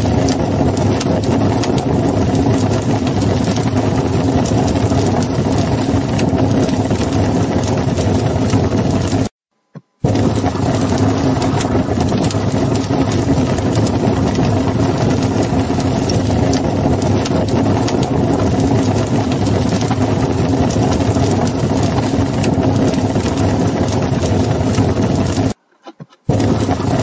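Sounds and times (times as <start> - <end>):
machine humming and rushing: 0.0 - 9.3, 10.0 - 25.6, 26.3 - 27.0.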